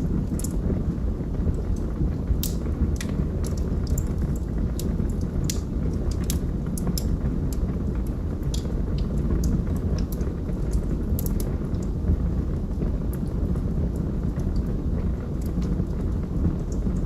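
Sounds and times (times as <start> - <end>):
log fire crackling: 0.0 - 17.0.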